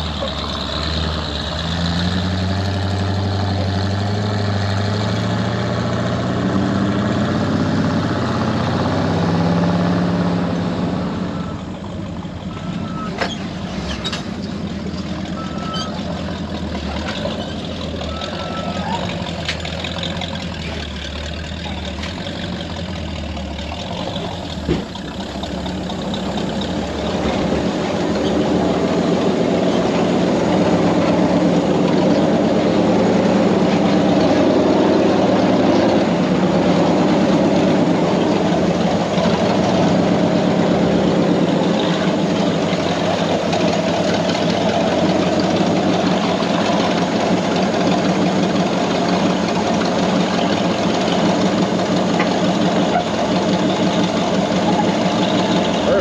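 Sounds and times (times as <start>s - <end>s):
engine running close by: 0.0s - 56.0s.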